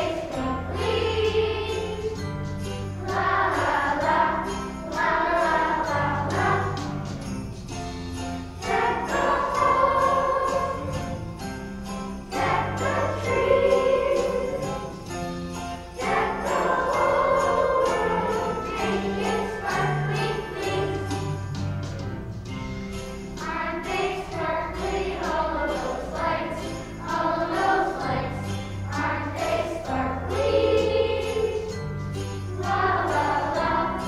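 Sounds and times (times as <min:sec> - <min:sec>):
children's choir singing: 0:00.0 - 0:07.3, 0:08.6 - 0:11.4, 0:12.2 - 0:15.1, 0:15.9 - 0:21.7, 0:23.3 - 0:34.0
instrumental accompaniment: 0:00.0 - 0:34.0
jingle bells shaking: 0:00.0 - 0:34.0.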